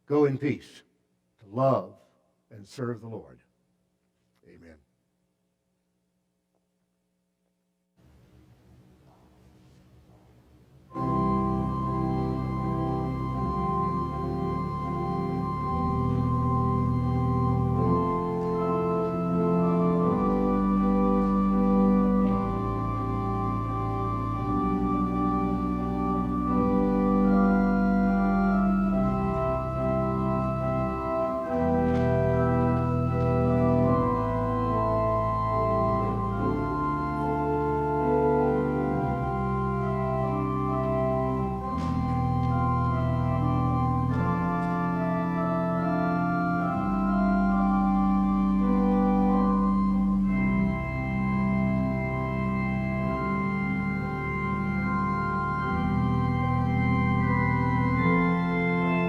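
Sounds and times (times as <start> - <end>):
organ playing chords: 10.9 - 59.0.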